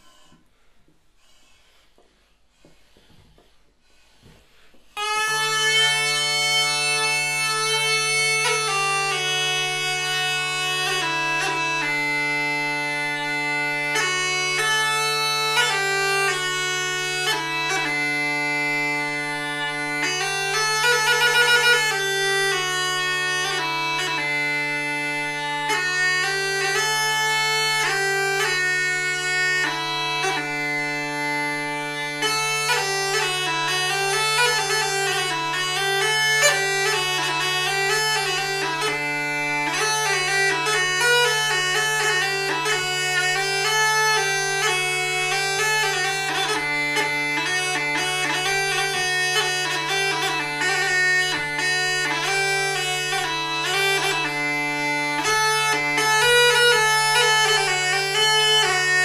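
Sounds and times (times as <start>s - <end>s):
bagpipe melody over drone: 5.0s - 59.0s.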